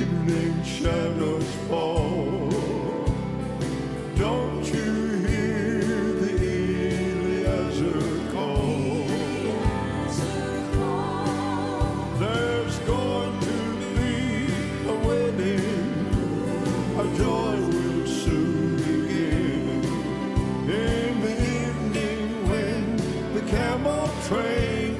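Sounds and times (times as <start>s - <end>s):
drums playing a steady beat: 0.0s - 24.9s
keyboard: 0.0s - 24.9s
piano: 0.0s - 24.9s
singing: 4.2s - 24.9s.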